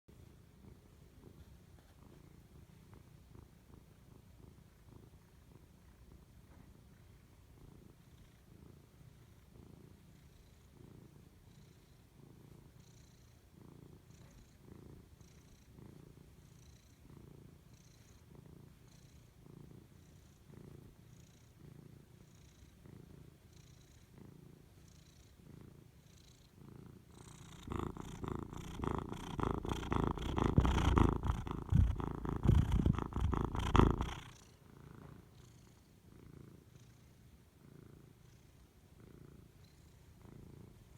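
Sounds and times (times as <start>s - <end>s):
cat purring: 0.1s - 40.9s.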